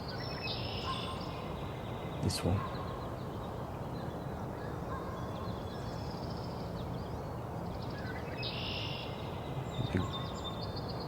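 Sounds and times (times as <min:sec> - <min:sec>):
high bird chatter: 0:00.0 - 0:07.0, 0:07.8 - 0:11.0
songbirds singing: 0:00.0 - 0:11.0.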